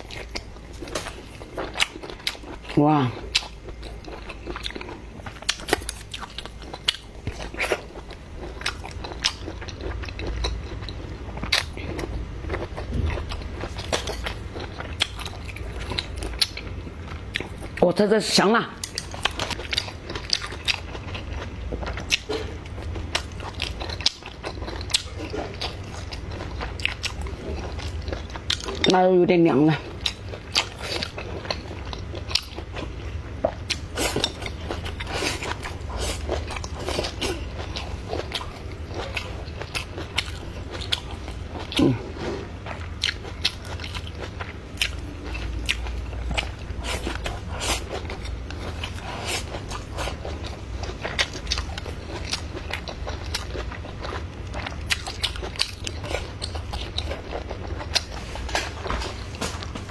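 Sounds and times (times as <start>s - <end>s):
person chewing food: 0.0s - 17.8s, 18.8s - 29.0s, 29.8s - 59.9s.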